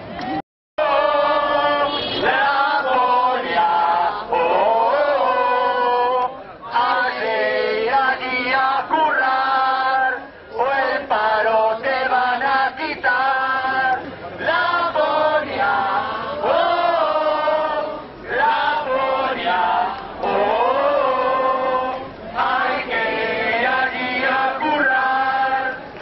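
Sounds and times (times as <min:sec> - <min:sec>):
crowd chanting: 0:00.2 - 0:26.0.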